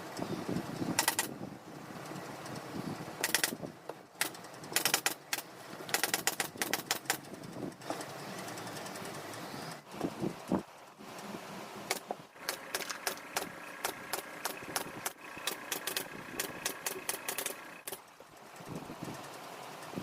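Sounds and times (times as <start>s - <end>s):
rapid mechanical clicking: 0.0s - 20.0s.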